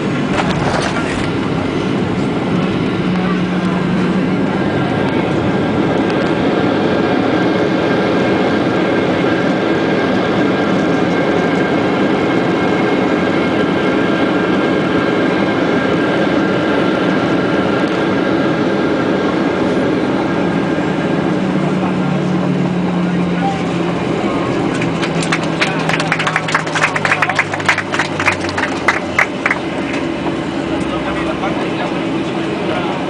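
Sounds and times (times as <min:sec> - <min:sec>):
jet engines and wheels roaring: 0:00.0 - 0:33.0
steady whining tones: 0:00.0 - 0:33.0.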